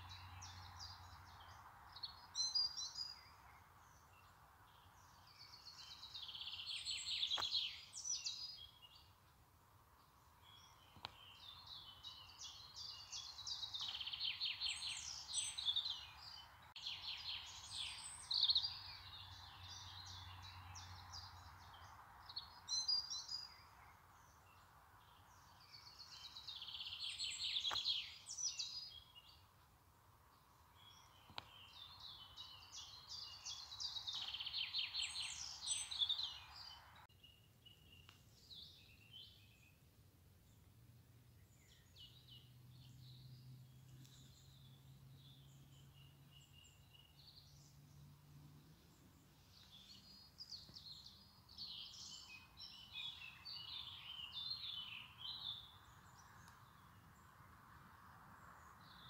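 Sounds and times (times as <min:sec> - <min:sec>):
songbirds trilling: 0:00.0 - 0:29.6, 0:30.3 - 0:39.9, 0:41.3 - 0:59.0
soft steady hiss: 0:00.0 - 0:59.0.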